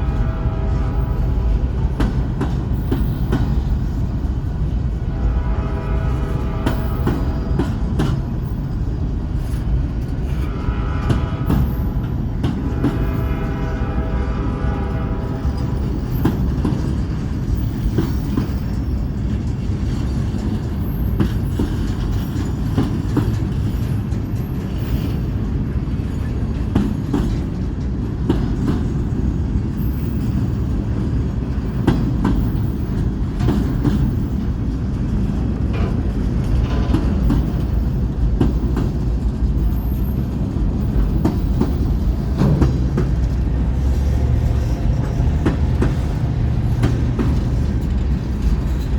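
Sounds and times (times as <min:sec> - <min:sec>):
freight train rumbling past: 0:00.0 - 0:48.9
wheels clacking over rail joints: 0:00.0 - 0:48.9.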